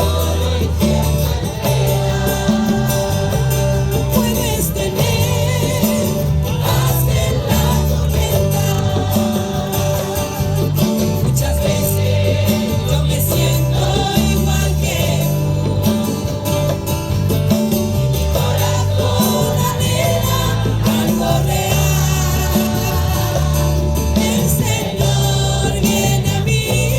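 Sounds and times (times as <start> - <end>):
group singing worship song: 0.0 - 26.9
instrumental accompaniment with bass: 0.0 - 26.9.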